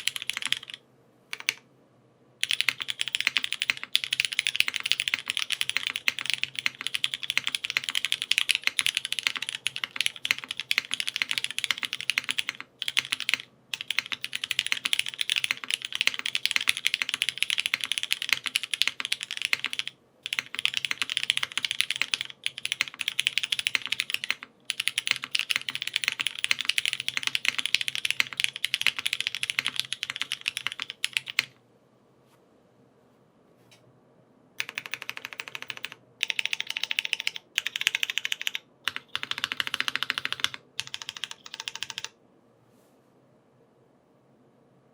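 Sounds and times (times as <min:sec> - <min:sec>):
fast typing on mechanical keyboard: 0:00.0 - 0:01.6, 0:02.4 - 0:31.5, 0:34.6 - 0:42.2.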